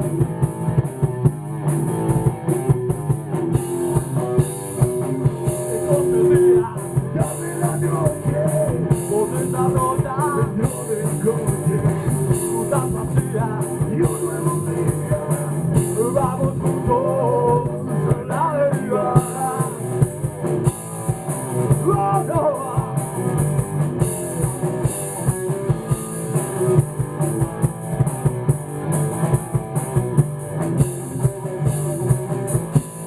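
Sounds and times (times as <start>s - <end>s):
bass: 0.0s - 33.0s
drum kit: 0.0s - 33.0s
electric guitars: 0.0s - 33.0s
lead guitar or sung melody: 0.0s - 33.0s.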